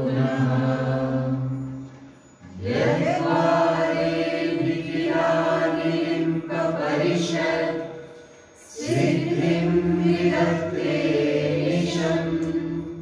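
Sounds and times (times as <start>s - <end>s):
voices chanting a hymn: 0.0s - 13.0s.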